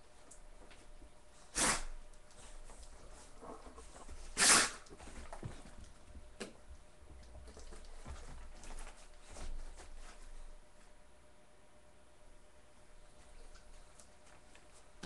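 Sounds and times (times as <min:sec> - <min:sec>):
soft intermittent noises: 0:00.0 - 0:15.0.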